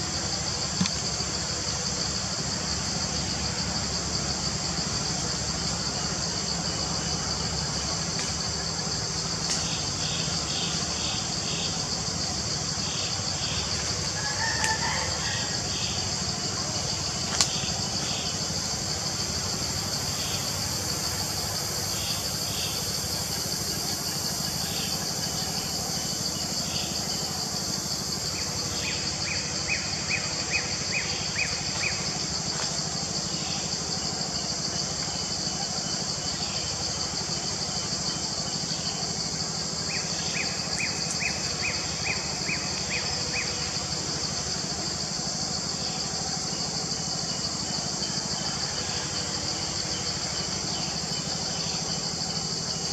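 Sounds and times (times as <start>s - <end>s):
insect drone: 0.0s - 52.9s.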